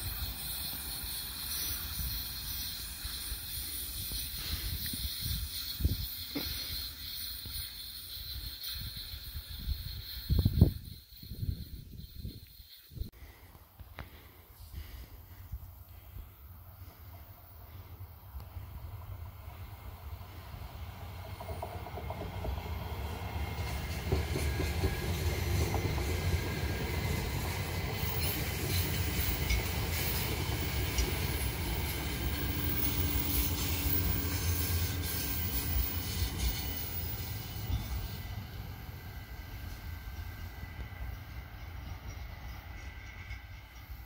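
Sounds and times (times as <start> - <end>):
electric train passing: 0.0 - 13.5, 14.3 - 44.0.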